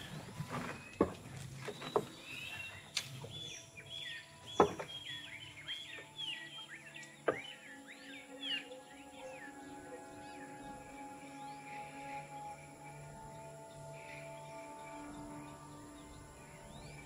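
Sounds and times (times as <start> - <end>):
faint background music tone: 0.0 - 17.0
small birds chirping: 0.0 - 17.0.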